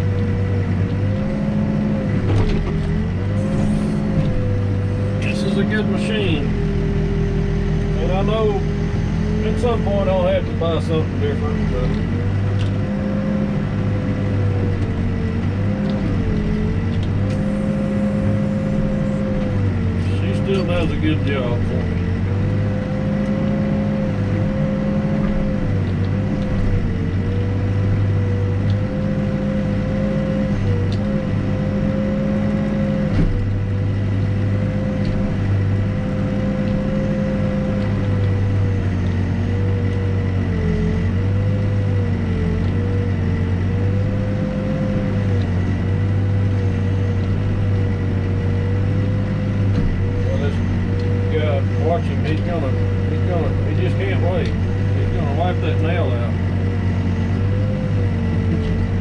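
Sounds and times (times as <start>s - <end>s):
backhoe diesel engine droning: 0.0s - 59.0s.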